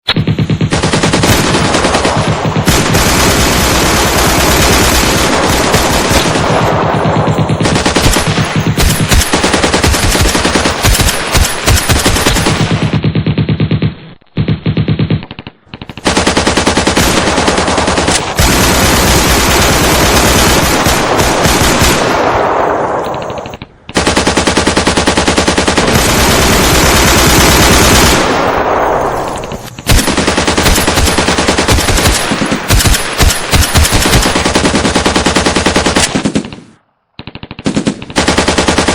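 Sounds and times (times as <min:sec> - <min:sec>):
machine-gun fire bursts: 0:00.1 - 0:38.9.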